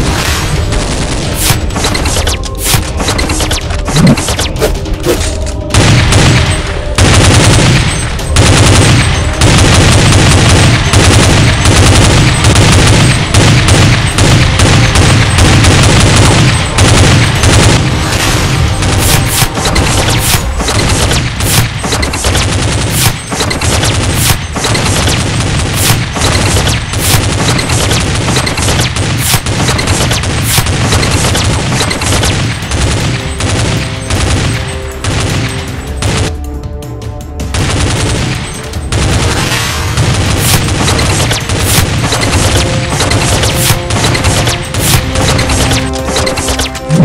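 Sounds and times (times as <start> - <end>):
rapid machine-gun fire: 0.6 - 4.8, 5.7 - 36.3, 37.5 - 47.0.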